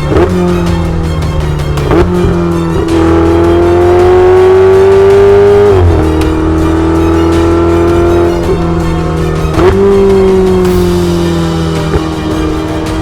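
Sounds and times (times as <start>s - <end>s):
car engine accelerating: 0.0s - 13.0s
music: 0.0s - 13.0s.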